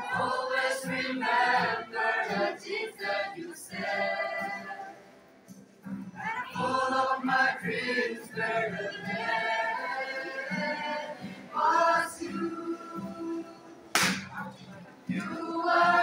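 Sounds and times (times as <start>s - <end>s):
children's choir singing: 0.0s - 5.1s, 6.2s - 16.0s.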